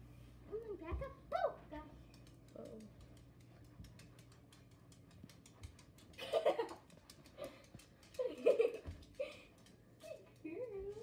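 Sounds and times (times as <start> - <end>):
dog claws ticking on tile: 1.9 - 11.0.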